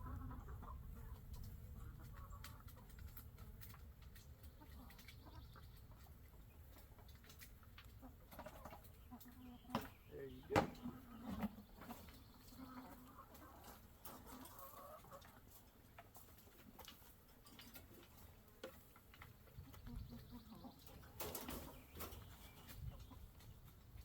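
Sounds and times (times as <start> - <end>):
chickens clucking: 0.0 - 24.0
small knocks and rustles: 1.3 - 24.0.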